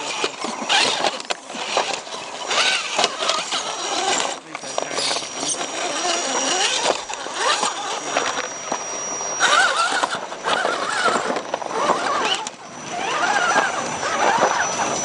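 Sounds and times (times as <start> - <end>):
electric motors whining: 0.0 - 15.0
thin high whine: 0.0 - 15.0.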